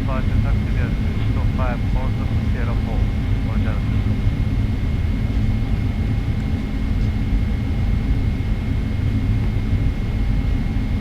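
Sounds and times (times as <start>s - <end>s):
airplane cabin rumble: 0.0s - 11.0s
faint high whine: 0.0s - 11.0s.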